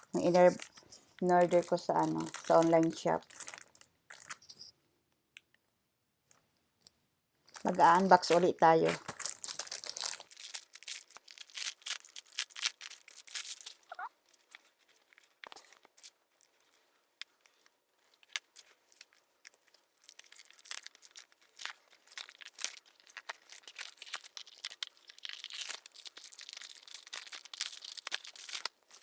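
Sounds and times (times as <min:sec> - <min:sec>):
packaging crinkling and tearing: 0:00.0 - 0:04.4, 0:07.6 - 0:29.0.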